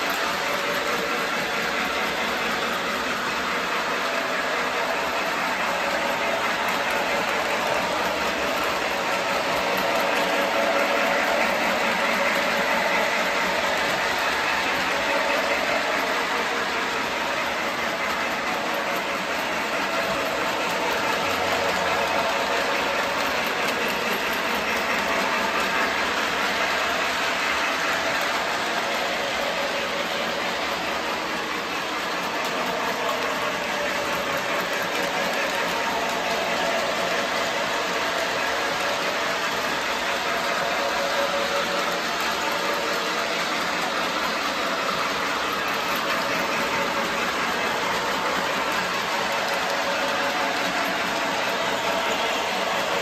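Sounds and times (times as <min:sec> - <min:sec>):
model locomotive motor: 0:00.0 - 0:53.0
model train wheels rumbling on rails: 0:00.0 - 0:53.0.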